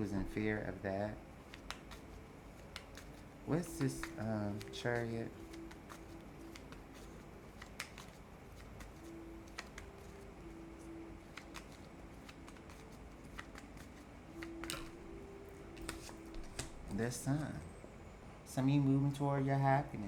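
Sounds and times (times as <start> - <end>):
cards being handled: 0.0 - 17.6
faint low hum: 0.0 - 20.0.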